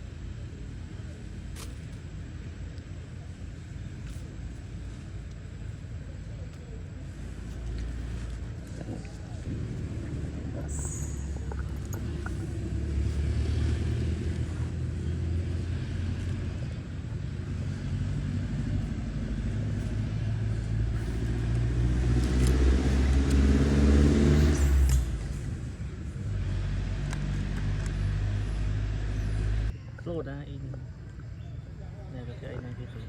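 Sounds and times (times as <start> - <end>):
vehicle engine running: 0.0 - 29.8.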